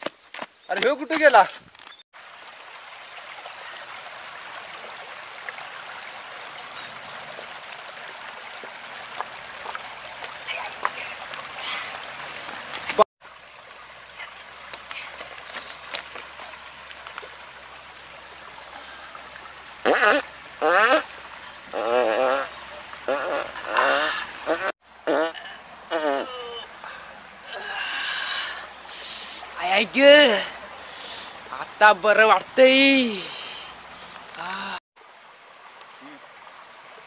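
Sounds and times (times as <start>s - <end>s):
stream rushing over stones: 0.2s - 37.0s.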